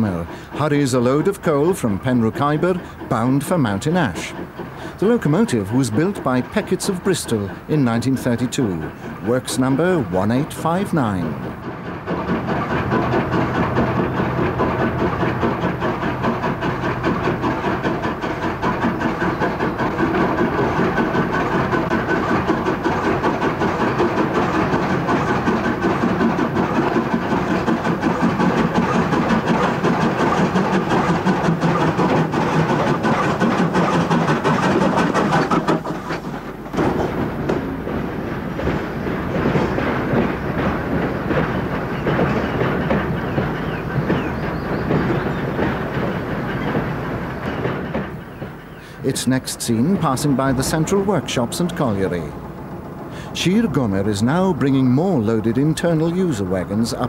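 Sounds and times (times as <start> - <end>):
steam locomotive exhaust beats: 0.0 - 57.0
wagons rattling: 0.0 - 57.0.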